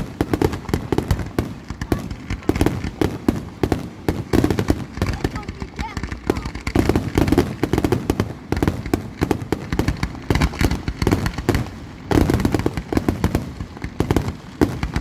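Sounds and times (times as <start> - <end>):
fireworks bangs and crackles: 0.0 - 15.0
fireworks booms: 0.0 - 15.0.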